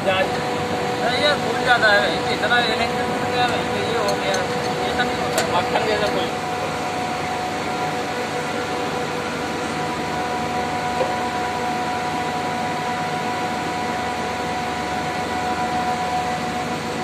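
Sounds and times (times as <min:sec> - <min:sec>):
air conditioning machinery hum: 0:00.0 - 0:17.0.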